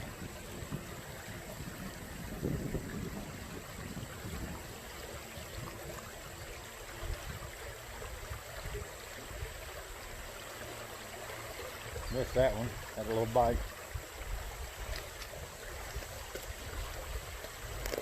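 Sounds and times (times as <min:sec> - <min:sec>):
wind rumble on microphone: 0:00.0 - 0:10.3, 0:11.8 - 0:18.0
creek water running: 0:00.0 - 0:18.0.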